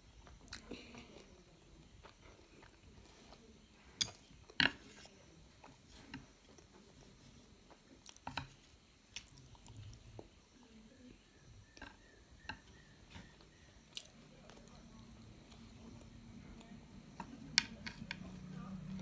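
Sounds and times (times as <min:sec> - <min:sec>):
faint chewing of noodles: 0:00.1 - 0:11.0, 0:11.6 - 0:17.4.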